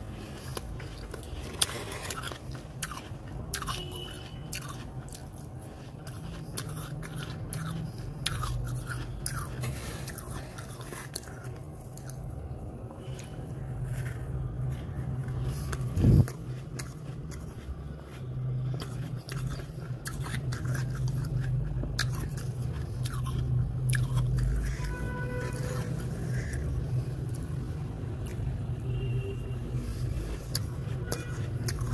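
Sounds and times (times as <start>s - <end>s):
chewing crunchy frost: 0.0s - 28.8s, 29.6s - 31.9s
steady low hum: 0.0s - 31.9s.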